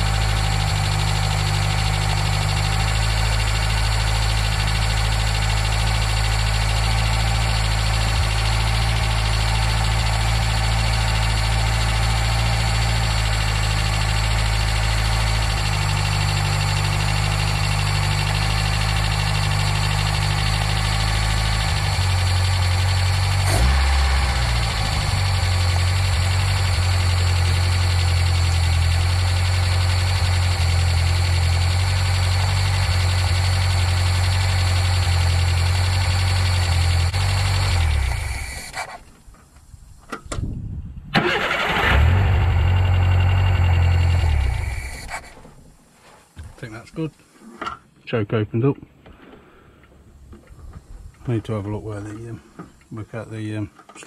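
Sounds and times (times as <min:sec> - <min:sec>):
car engine idling: 0:00.0 - 0:40.1, 0:41.1 - 0:46.9.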